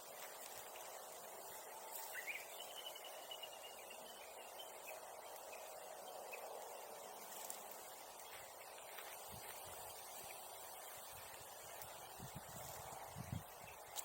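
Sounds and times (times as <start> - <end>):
faint scattered ticks: 0.0 - 14.0
steady low hiss: 0.0 - 14.0.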